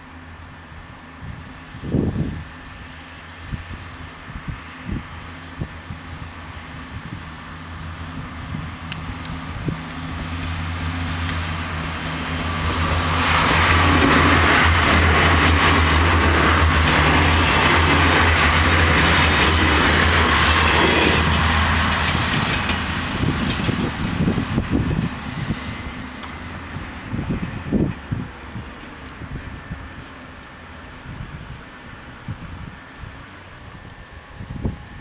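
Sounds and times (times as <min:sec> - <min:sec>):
train engine hum: 0:00.0 - 0:35.0
train wheel and rail noise: 0:00.0 - 0:35.0.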